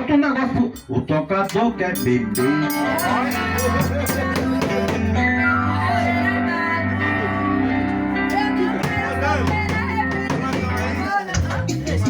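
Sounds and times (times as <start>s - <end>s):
steady bass: 0.0s - 12.0s.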